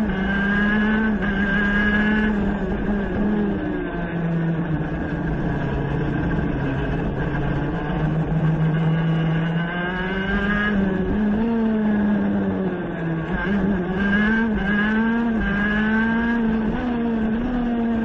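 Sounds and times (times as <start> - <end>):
high-revving race engine: 0.0 - 18.0.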